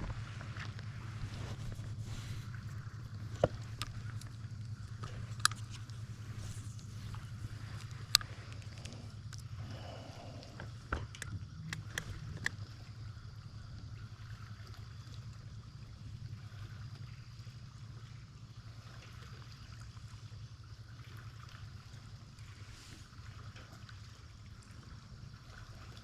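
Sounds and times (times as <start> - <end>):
steady low hum: 0.0 - 26.0
water lapping against boat: 0.0 - 26.0.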